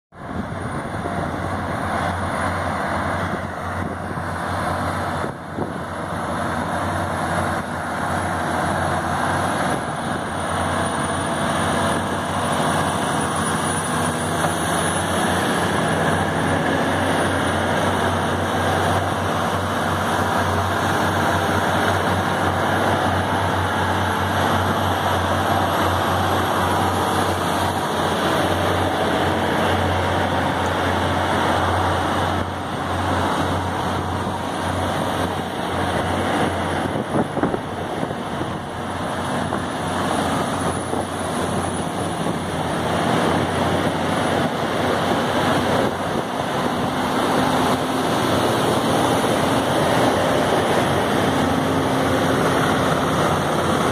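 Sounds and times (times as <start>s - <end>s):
diesel truck engines running: 0.1s - 53.9s
road noise: 0.1s - 53.9s.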